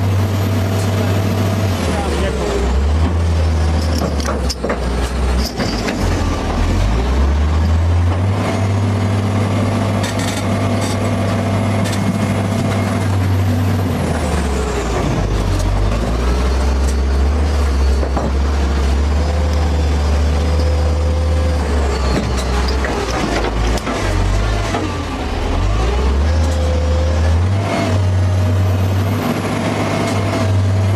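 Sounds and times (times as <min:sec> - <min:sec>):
heavy machine engine droning: 0:00.0 - 0:30.9.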